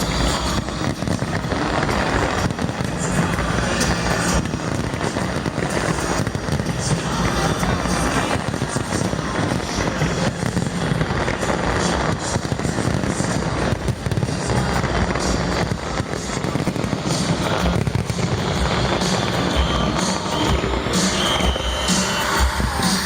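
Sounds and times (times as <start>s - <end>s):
fireworks bursting and crackling: 0.0s - 23.0s
music: 0.0s - 23.0s.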